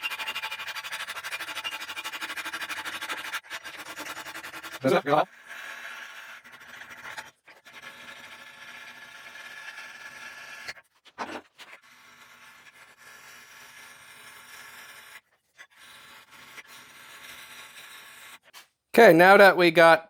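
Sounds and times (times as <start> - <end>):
file scraping steel: 0.0 - 18.6.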